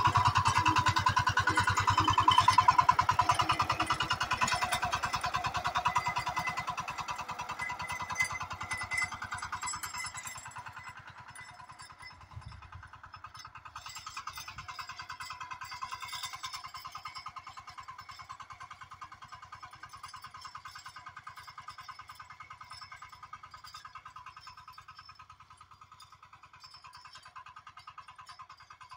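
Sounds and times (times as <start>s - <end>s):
cultivator engine running: 0.0s - 28.9s.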